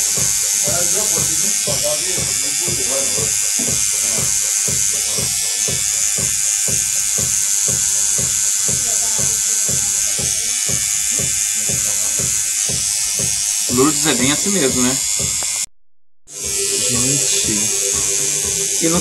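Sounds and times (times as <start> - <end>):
tattoo machine buzzing: 0.0 - 15.7, 16.3 - 19.0.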